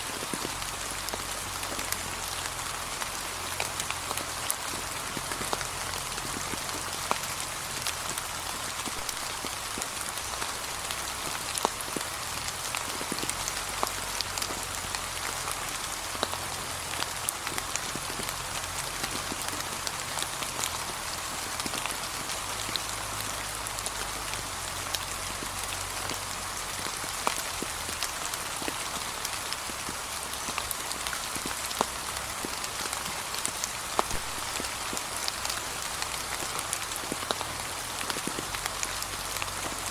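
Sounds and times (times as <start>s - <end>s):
rain falling on leaves: 0.0s - 39.9s
raindrop ticks: 0.1s - 39.9s.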